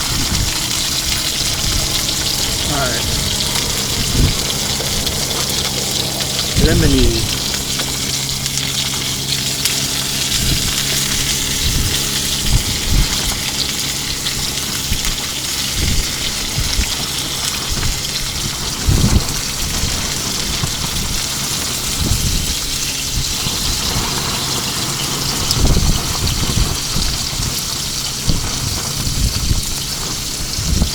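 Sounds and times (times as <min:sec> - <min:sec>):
fish sizzling in a pan: 0:00.0 - 0:30.9
wind gusting against a tent: 0:00.0 - 0:30.9.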